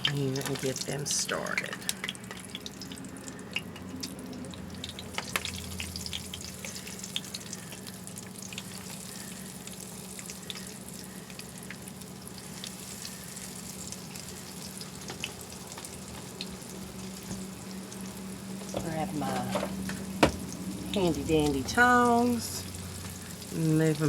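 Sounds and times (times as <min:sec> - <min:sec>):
meat sizzling in frying oil: 0:00.0 - 0:24.0
oil crackling and popping: 0:00.0 - 0:24.0.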